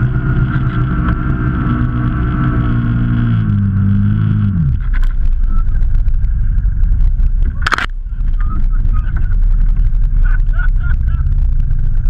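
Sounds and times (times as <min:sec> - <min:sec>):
off-road vehicle engine rumbling: 0:00.0 - 0:12.0.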